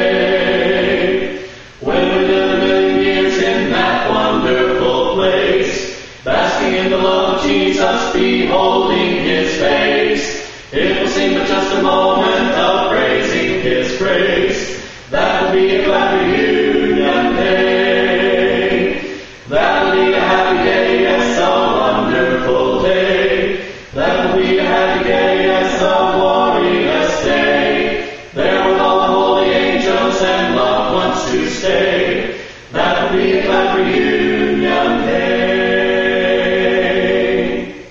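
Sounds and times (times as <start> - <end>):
vocal quartet singing in harmony: 0.0 - 37.9.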